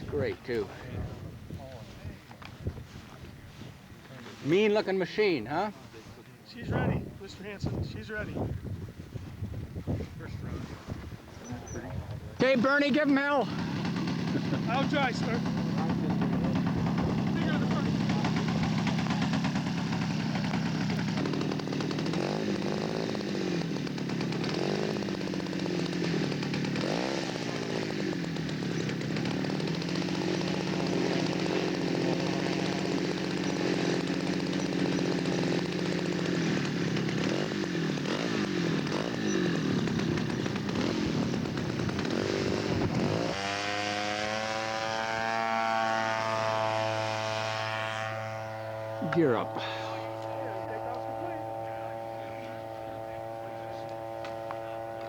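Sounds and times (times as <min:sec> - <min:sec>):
model aircraft engine revving: 0:10.4 - 0:55.0.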